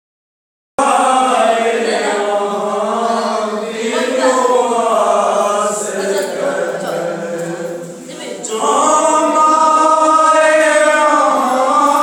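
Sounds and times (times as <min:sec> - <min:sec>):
group singing devotional song: 0:00.8 - 0:12.0.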